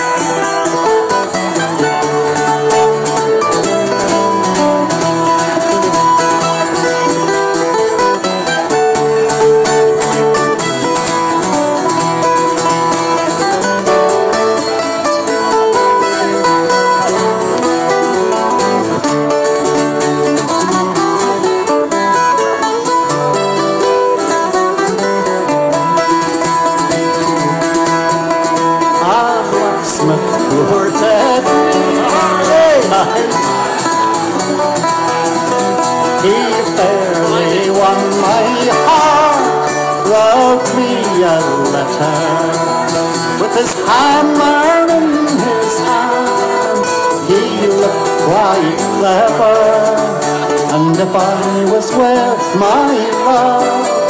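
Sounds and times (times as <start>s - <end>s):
folk band playing live: 0.0s - 54.0s.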